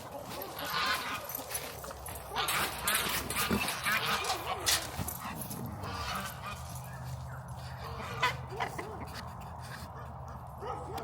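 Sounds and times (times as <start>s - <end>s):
turkeys and geese calling: 0.0s - 9.1s.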